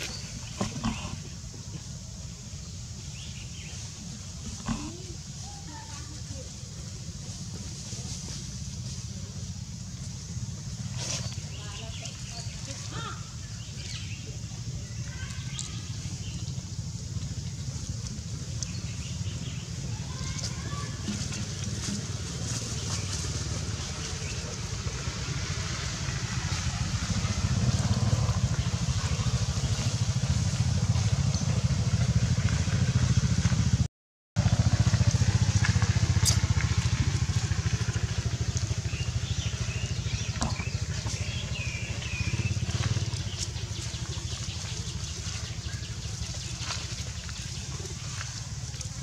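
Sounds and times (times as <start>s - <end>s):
low engine rumble: 0.0s - 49.0s.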